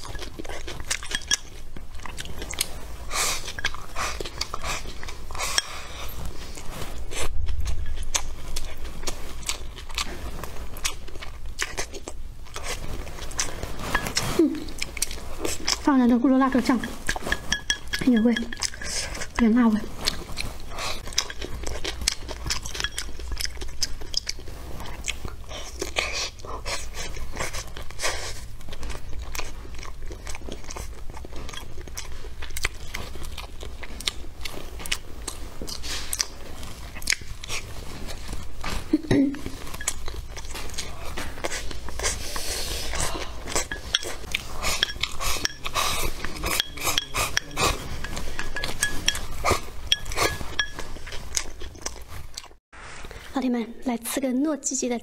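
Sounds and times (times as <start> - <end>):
person chewing crunchy food: 0.0 - 53.3.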